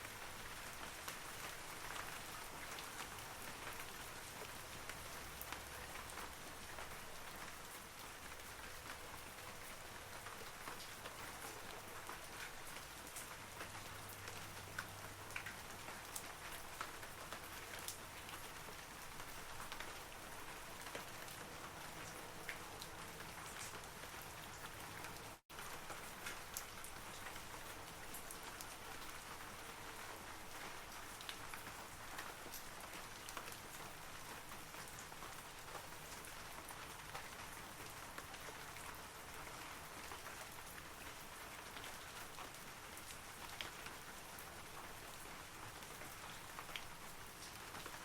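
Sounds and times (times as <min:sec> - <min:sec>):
rain falling on foliage: 0:00.0 - 0:48.0.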